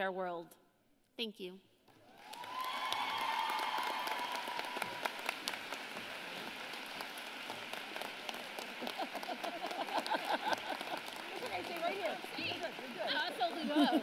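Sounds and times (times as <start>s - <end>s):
large audience applauding: 1.9s - 14.0s.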